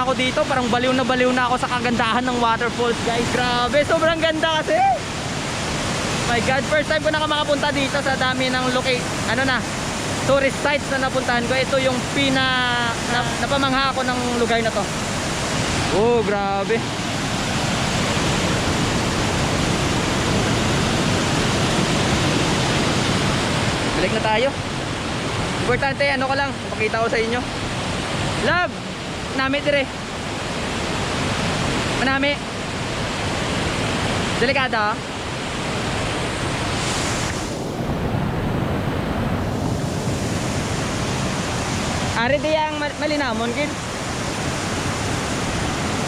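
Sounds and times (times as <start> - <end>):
waterfall roaring: 0.0 - 46.0
wind rumbling on microphone: 0.0 - 46.0.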